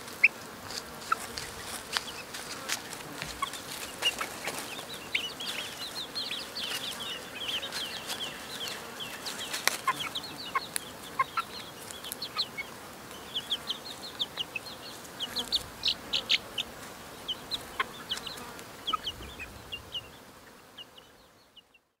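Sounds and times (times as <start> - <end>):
chicks peeping: 0.1 - 21.8.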